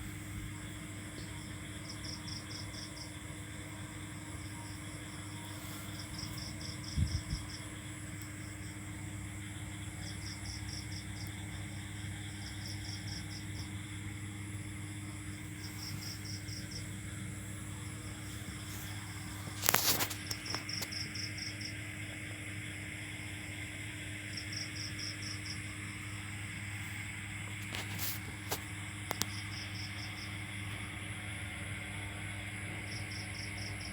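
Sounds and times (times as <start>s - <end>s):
insect chirping trills: 0.0s - 33.9s
steady low hum: 0.0s - 33.9s.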